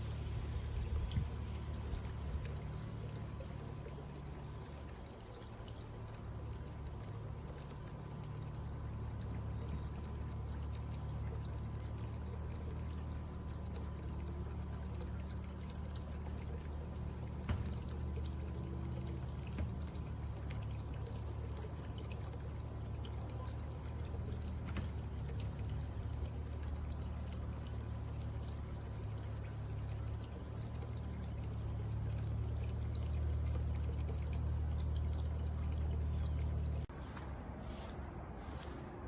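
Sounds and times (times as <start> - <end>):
water pouring and splashing: 0.0 - 38.8
low constant hum: 0.0 - 39.0.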